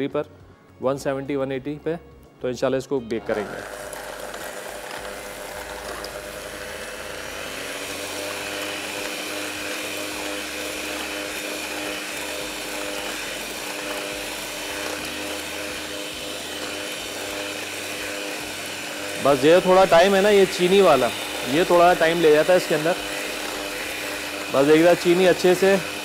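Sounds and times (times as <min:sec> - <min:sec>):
electric mixer whining: 0:03.1 - 0:26.0.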